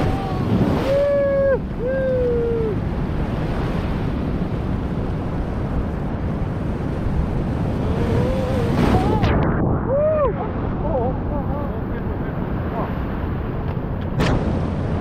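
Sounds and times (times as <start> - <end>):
surf breaking over rocks: 0.0 - 15.0
wind buffeting microphone: 0.0 - 15.0.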